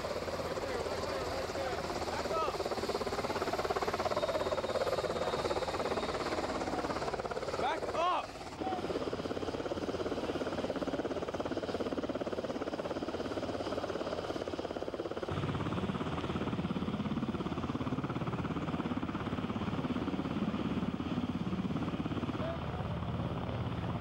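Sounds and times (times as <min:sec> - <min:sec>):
helicopter rotors chopping: 0:00.0 - 0:24.0.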